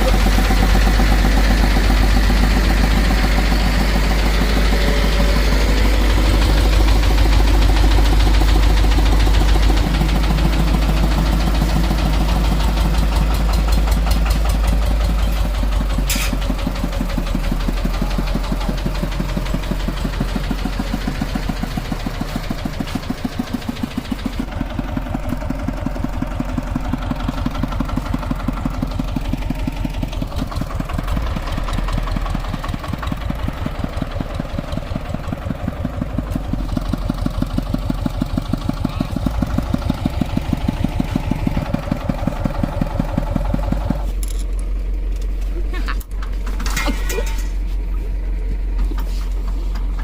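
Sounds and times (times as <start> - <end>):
diesel engine chugging: 0.0 - 50.0.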